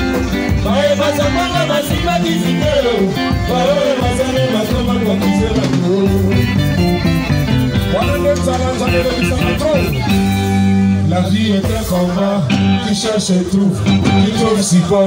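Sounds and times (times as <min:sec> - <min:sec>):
drums: 0:00.0 - 0:15.0
electric bass: 0:00.0 - 0:15.0
guitars: 0:00.0 - 0:15.0
person singing: 0:00.5 - 0:07.0, 0:07.8 - 0:15.0.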